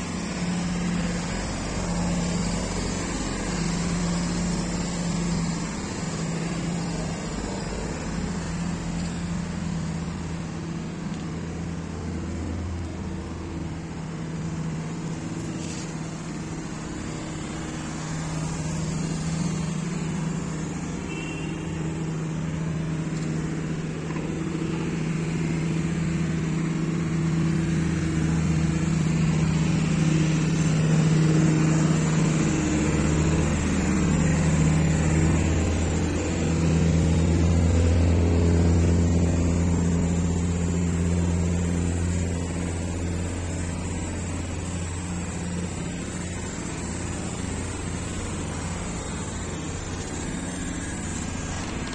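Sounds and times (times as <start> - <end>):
road vehicle engines humming: 0.0 - 51.9.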